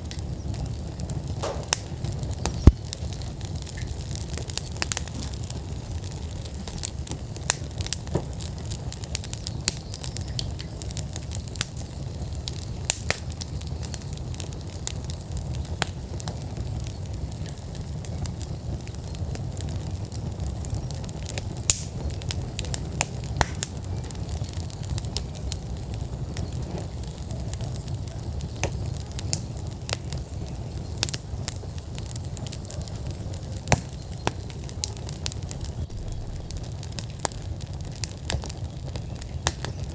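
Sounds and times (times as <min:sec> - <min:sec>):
burning logs crackling and popping: 0:00.0 - 0:39.9
wood fire flames rumbling: 0:00.0 - 0:39.9.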